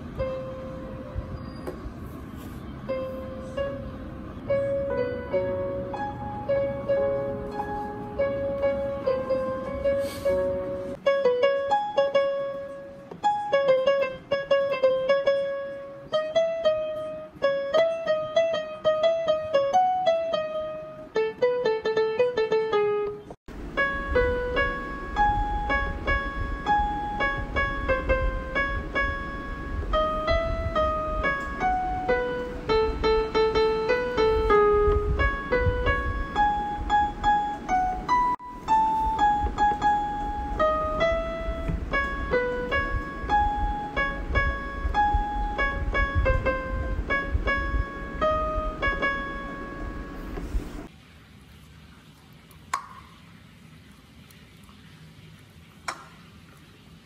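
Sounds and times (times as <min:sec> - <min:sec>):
keyboard melody one note at a time: 0:02.9 - 0:50.9.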